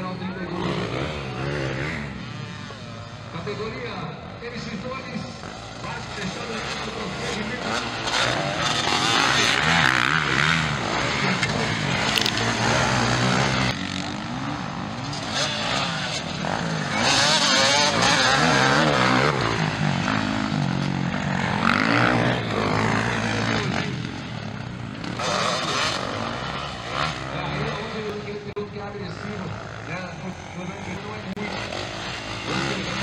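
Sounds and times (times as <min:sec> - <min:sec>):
motocross bikes revving past: 0:00.0 - 0:33.0.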